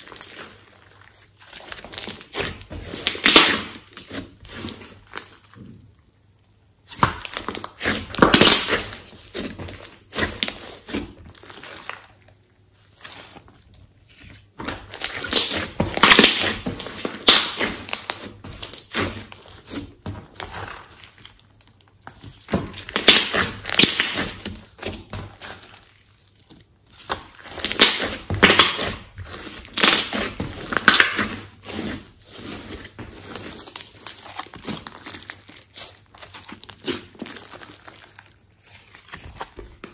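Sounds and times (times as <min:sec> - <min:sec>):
slime squished by hand: 0:00.0 - 0:05.6, 0:06.8 - 0:39.9.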